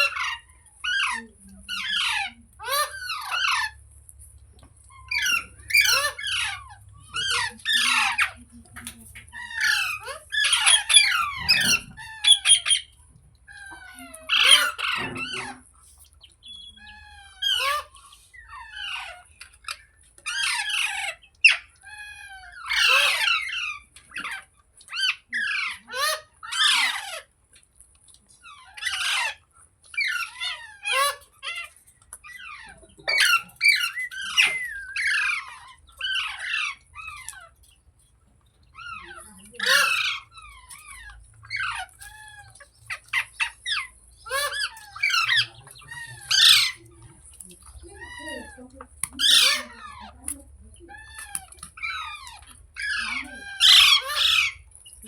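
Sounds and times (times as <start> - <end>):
parrot squawking and chirping: 0.0 - 55.0.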